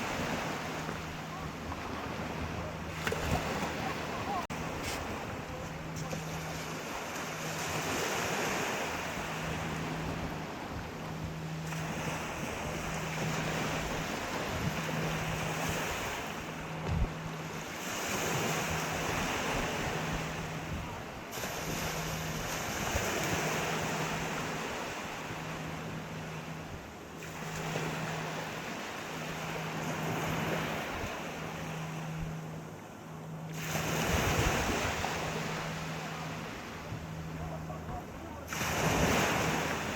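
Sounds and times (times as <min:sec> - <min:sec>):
low hum: 0:00.0 - 0:39.9
sea waves breaking ashore: 0:00.0 - 0:39.9.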